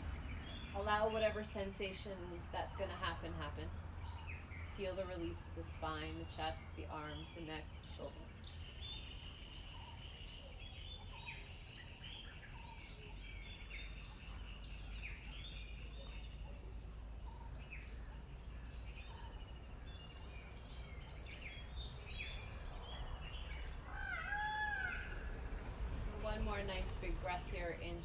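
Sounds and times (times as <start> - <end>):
low background rumble: 0.0 - 28.0
birds chirping and singing: 3.9 - 28.0.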